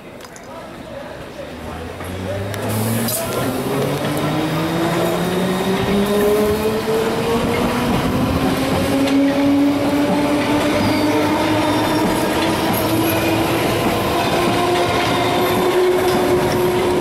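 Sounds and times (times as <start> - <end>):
train wheels rumbling on rails: 1.2 - 17.0.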